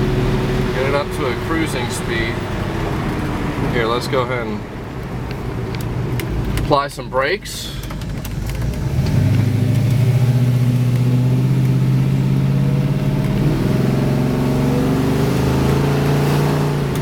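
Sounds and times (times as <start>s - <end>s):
car engine running under throttle: 0.0s - 17.0s.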